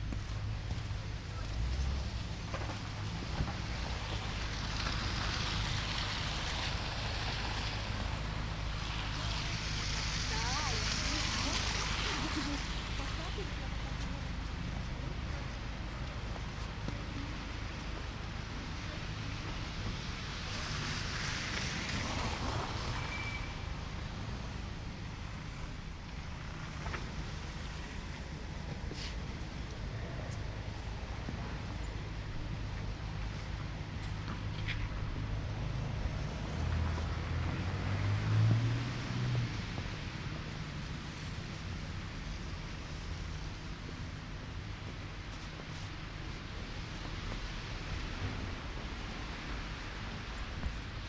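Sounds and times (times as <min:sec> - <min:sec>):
vehicle passing on snowy street: 0:00.0 - 0:51.0
blizzard wind hiss: 0:00.1 - 0:51.0.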